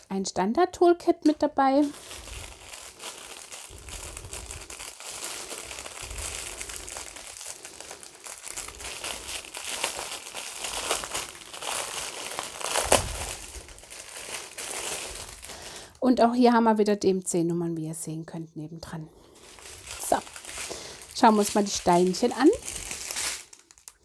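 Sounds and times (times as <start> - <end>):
plastic packaging crinkling: 1.2 - 16.0, 19.2 - 24.0.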